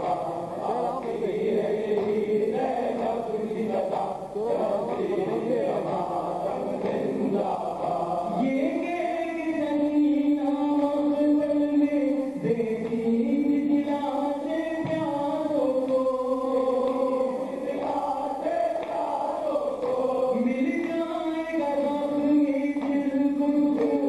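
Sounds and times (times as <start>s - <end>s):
men chanting: 0.0s - 24.0s.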